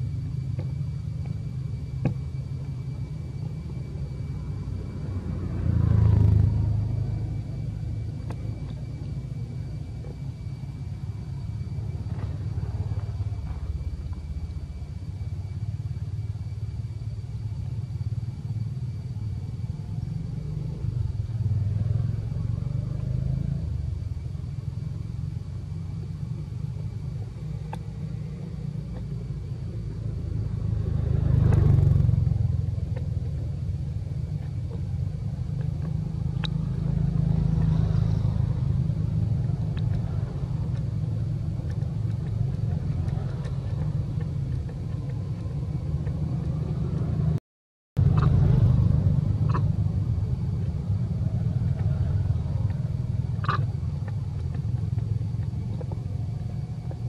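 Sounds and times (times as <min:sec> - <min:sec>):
low rumble: 0:00.0 - 0:47.4, 0:48.0 - 0:57.0.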